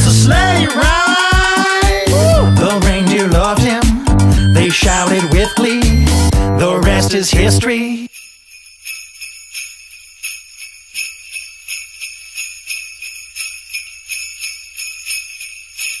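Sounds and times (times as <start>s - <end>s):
sleigh bells jingling: 0.0s - 16.0s.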